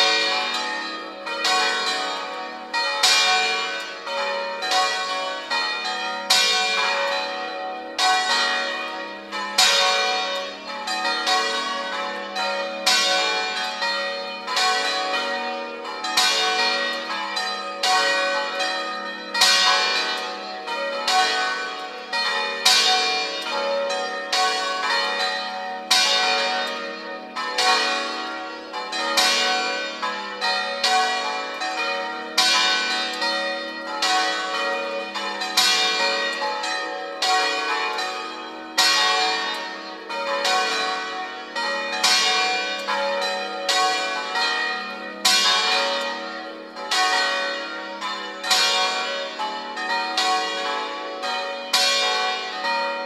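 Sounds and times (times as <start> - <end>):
church bells swinging peal: 0.0 - 53.0.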